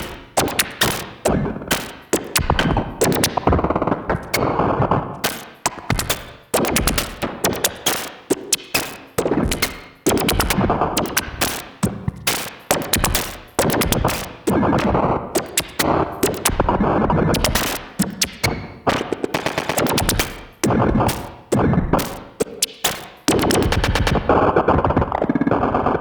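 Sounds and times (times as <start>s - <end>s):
modular synthesizer clicks and pulses: 0.0s - 26.0s.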